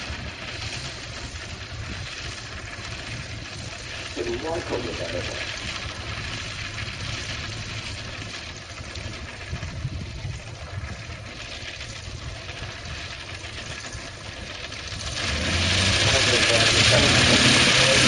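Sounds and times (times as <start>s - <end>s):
small plane engine running: 0.0s - 18.0s.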